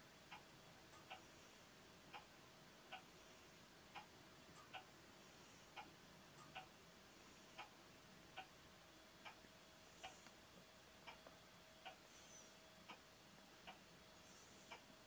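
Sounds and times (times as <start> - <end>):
faint regular ticking: 0.1 - 15.0.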